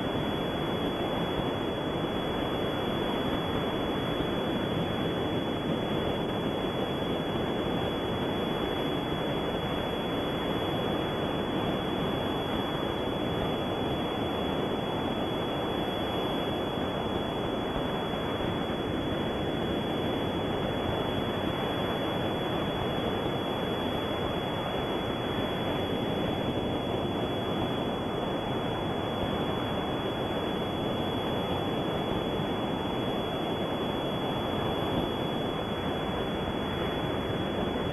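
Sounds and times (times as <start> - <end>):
tape hiss: 0.0 - 37.9
thin high whine: 0.0 - 37.9.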